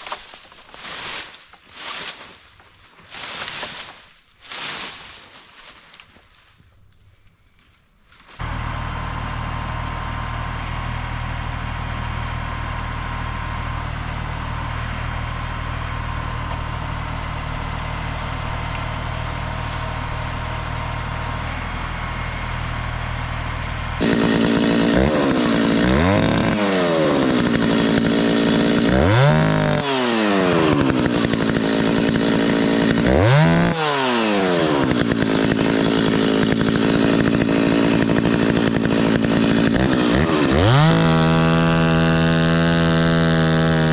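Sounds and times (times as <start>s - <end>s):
chainsaw idling and revving: 8.4s - 43.9s.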